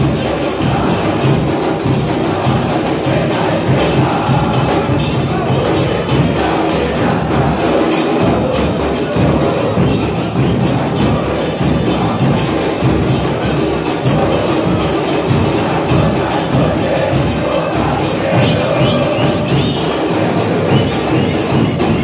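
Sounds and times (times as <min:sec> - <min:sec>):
bass drums beating: 0:00.0 - 0:22.0
crowd singing a chant: 0:00.0 - 0:22.0.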